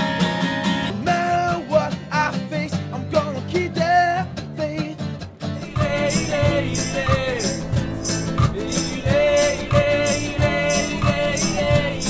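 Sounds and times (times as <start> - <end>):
acoustic guitar strumming: 0.0 - 12.0
man singing: 0.9 - 12.0.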